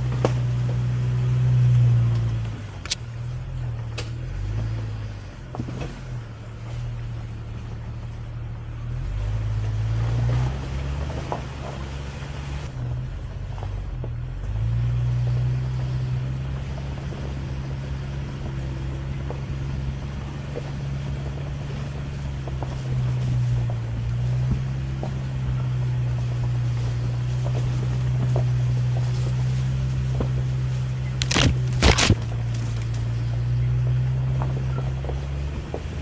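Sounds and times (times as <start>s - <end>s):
car engine humming: 0.0s - 36.0s.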